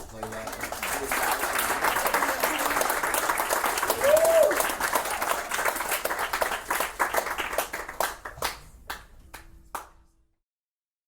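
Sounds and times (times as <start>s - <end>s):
audience clapping: 0.0s - 10.0s.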